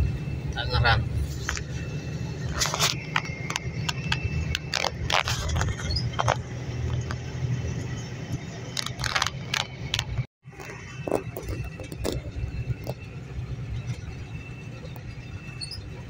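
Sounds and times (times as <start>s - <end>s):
sharp clicks and rattles: 1.4s - 16.0s.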